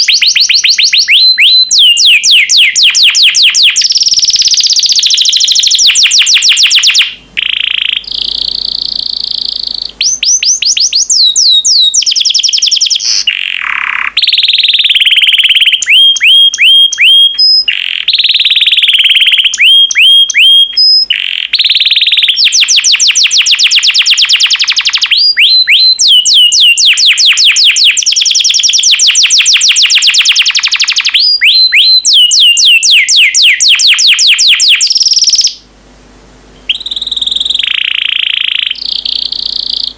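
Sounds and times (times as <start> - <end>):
canary singing trills: 0.0 - 35.7, 36.6 - 39.9.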